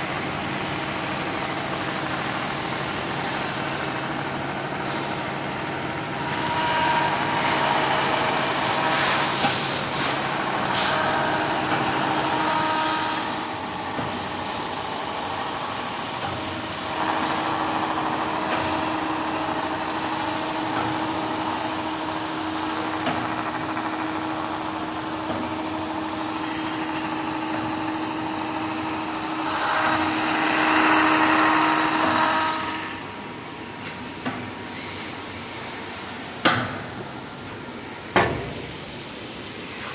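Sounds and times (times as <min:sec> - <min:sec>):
sanding machine humming: 0:00.0 - 0:33.0.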